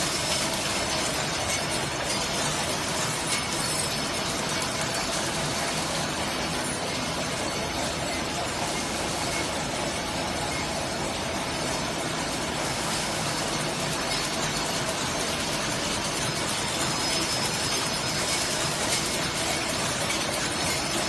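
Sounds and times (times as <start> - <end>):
packing machine rattling: 0.0 - 21.0.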